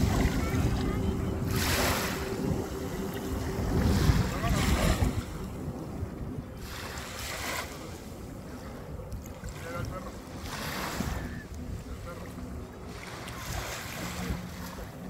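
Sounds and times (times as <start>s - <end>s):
small waves washing on shore: 0.0s - 15.0s
wind rumble on microphone: 0.0s - 15.0s.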